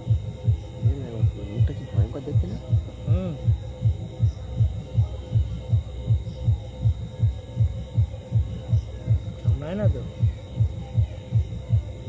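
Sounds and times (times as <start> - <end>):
insect calling low throbbing pulse: 0.0 - 12.0.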